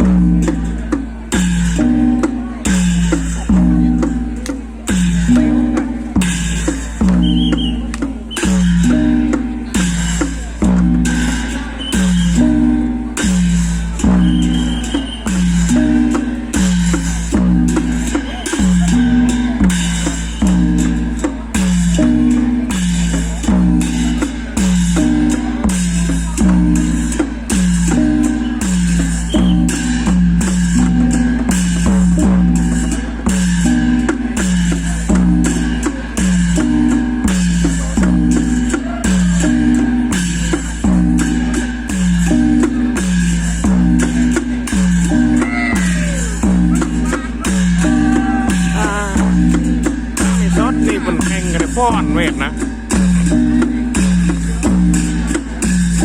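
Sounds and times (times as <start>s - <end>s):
drums: 0.0s - 56.0s.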